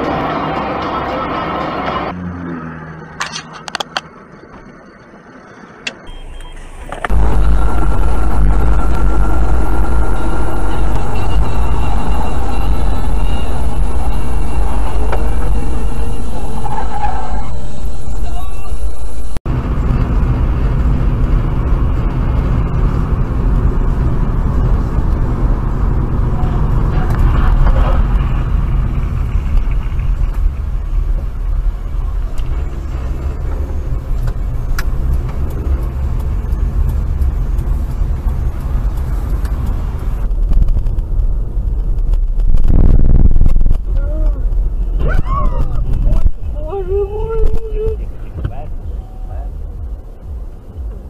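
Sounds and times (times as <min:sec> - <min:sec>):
road and engine rumble inside car: 0:00.0 - 0:51.0.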